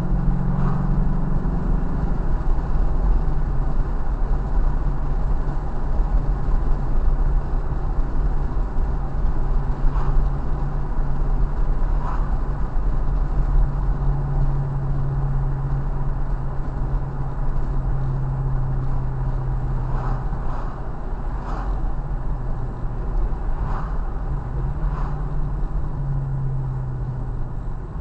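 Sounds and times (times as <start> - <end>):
car engine drone: 0.0 - 28.0
tyre and road rumble: 0.0 - 28.0.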